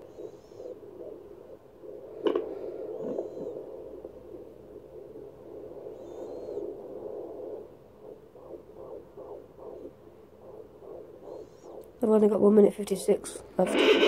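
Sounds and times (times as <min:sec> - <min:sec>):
fast pulsing heartbeat: 0:00.0 - 0:14.0.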